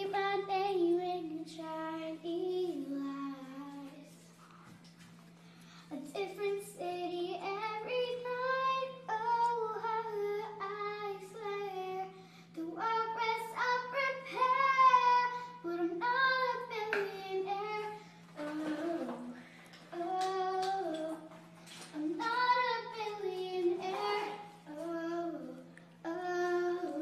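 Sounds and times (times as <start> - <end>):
girl singing: 0.0 - 4.3, 5.9 - 27.0
steady low hum: 0.0 - 27.0.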